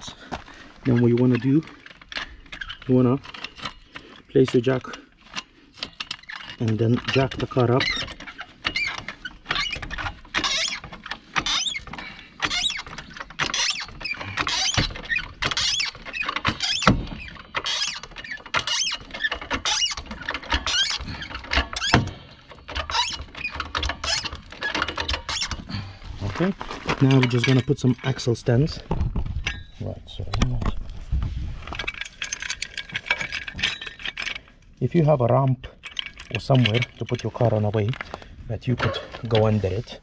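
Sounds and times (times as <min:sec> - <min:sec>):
car jack squeaking: 0:00.8 - 0:30.5, 0:31.8 - 0:35.2, 0:35.8 - 0:38.1.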